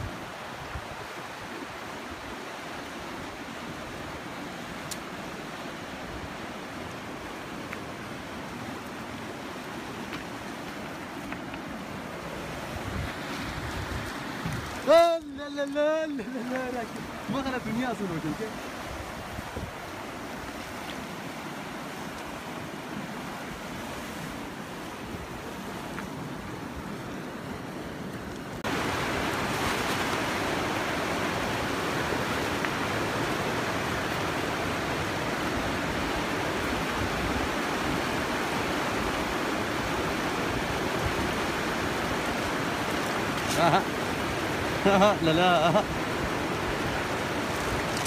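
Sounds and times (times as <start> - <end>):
fast-flowing river rushing: 0.0 - 48.0.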